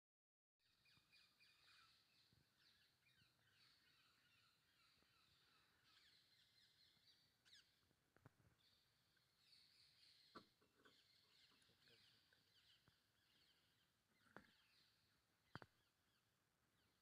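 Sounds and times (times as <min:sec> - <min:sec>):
forest birds chirping: 0:00.6 - 0:17.0.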